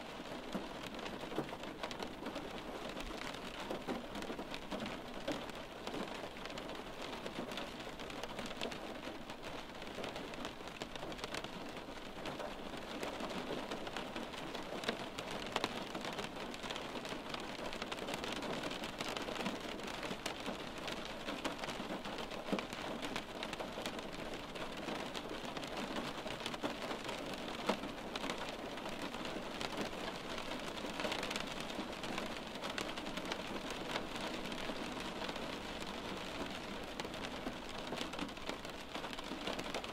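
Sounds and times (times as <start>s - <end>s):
rain pattering on window glass: 0.0s - 39.9s.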